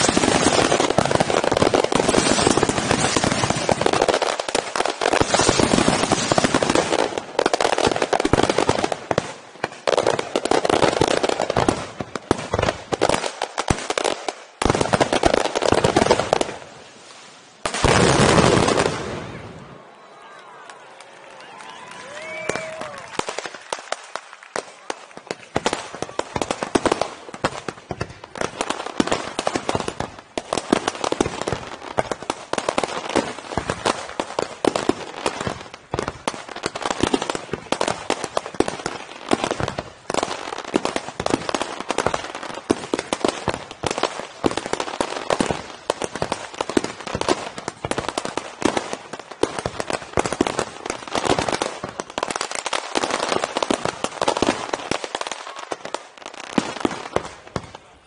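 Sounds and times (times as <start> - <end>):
fireworks popping and cracking: 0.0 - 19.6, 22.1 - 58.0.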